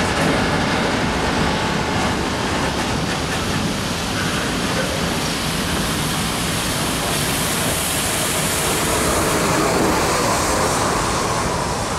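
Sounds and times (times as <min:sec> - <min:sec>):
train wheels rolling on rail: 0:00.0 - 0:11.9.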